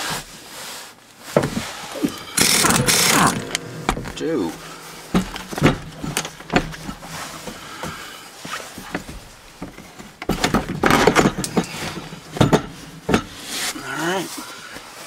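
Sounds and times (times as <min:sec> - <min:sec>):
seat knocking and rattling: 0:01.3 - 0:13.4.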